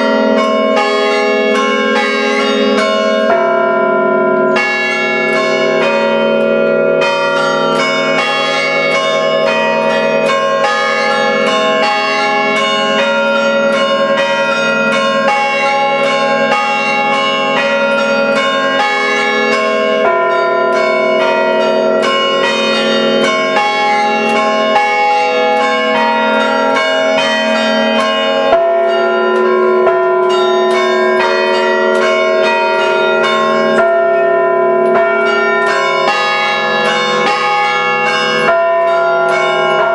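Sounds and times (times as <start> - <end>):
church bells chiming: 0.0 - 39.9.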